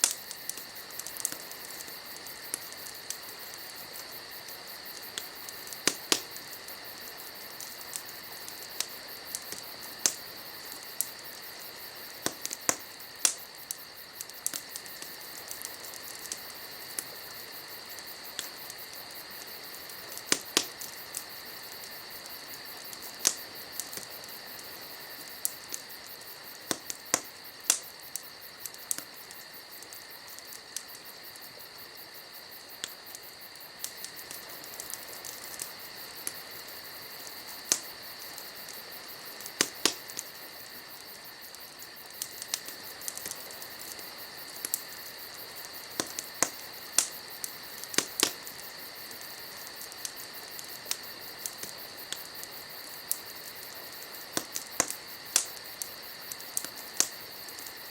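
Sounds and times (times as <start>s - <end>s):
insects chirring: 0.0s - 57.9s
wood fire crackling: 0.0s - 57.9s.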